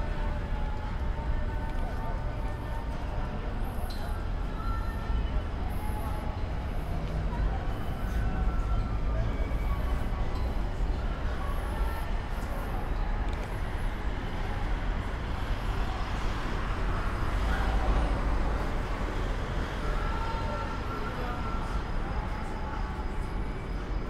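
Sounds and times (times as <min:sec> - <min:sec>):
faint distant voices: 0:00.0 - 0:24.0.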